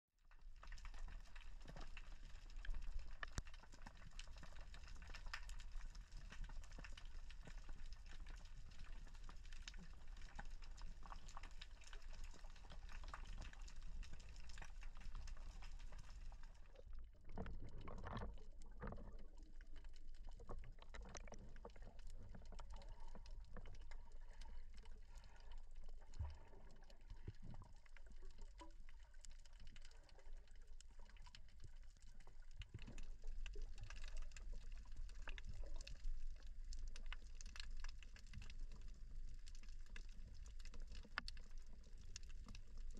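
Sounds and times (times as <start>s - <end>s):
crackle of small clicks: 0.2s - 42.9s
muffled underwater water rush: 0.2s - 42.9s.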